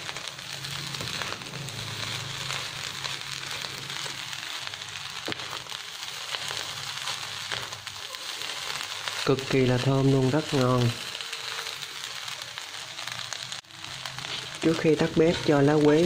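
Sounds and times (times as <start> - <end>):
rice sizzling in a pan: 0.0 - 16.0.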